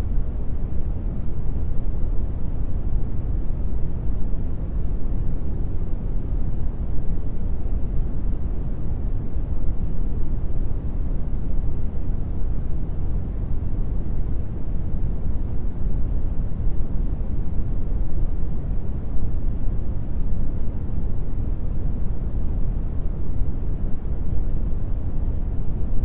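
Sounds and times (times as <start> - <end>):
brown noise hiss: 0.0 - 26.0.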